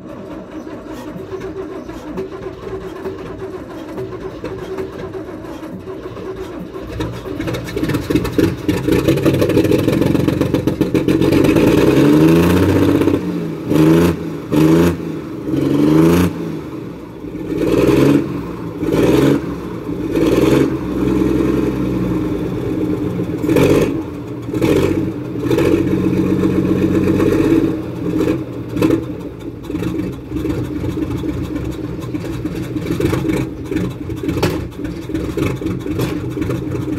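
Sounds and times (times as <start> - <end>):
diesel truck engine revving: 0.0 - 36.9.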